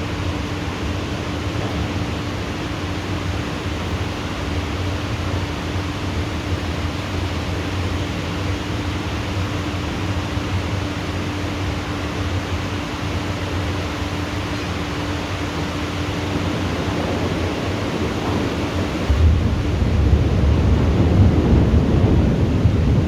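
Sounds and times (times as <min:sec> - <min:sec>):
faint steady hum: 0:00.0 - 0:23.0
heavy rain downpour: 0:00.0 - 0:23.0.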